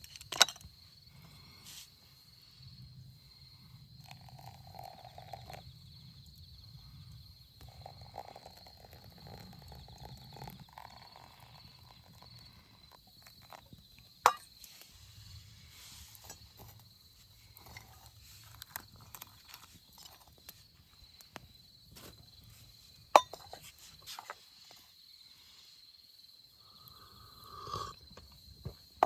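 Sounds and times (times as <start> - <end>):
insect chirring: 2.2 - 29.0.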